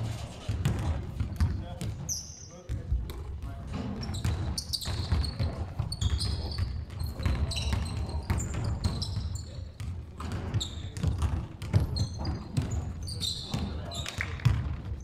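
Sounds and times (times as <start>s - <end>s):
sneakers squeaking on floor: 0.1s - 15.0s
basketball bouncing: 0.4s - 2.1s, 2.7s - 15.0s.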